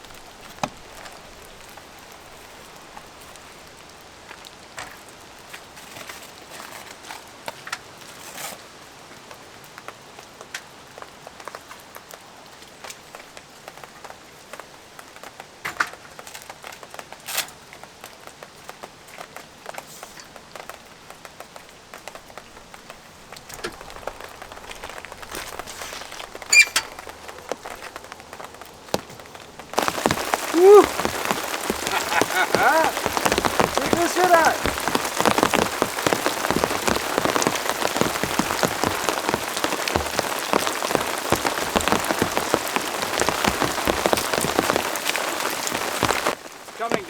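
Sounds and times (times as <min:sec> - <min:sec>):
rain falling: 0:00.0 - 0:47.0
raindrops ticking on a surface: 0:00.0 - 0:47.0.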